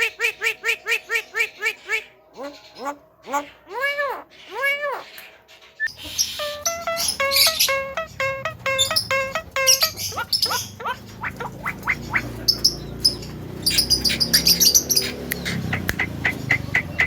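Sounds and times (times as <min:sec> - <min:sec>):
myna calling and mimicking: 0:00.0 - 0:05.1, 0:05.9 - 0:17.0.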